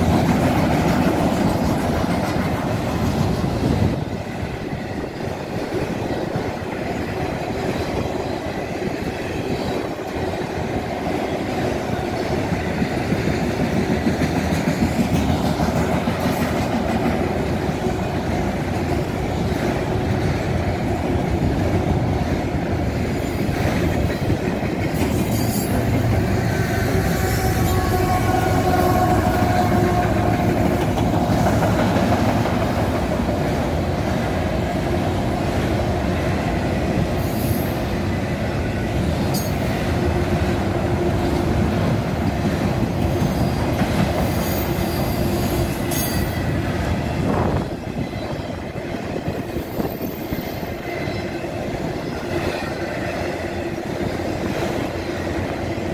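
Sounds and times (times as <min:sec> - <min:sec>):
train cars clanking: 0:00.0 - 0:55.9
train wheels rumbling on rails: 0:00.0 - 0:55.9.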